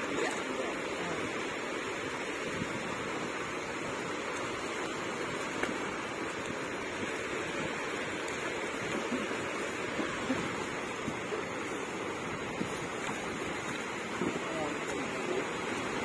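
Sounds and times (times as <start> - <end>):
small surf breaking on sand: 1.9 - 16.0.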